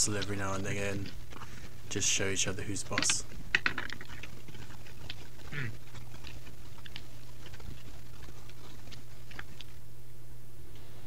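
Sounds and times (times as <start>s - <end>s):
antlers clicking and rattling: 0.0s - 9.8s
steady low hum: 0.0s - 11.0s.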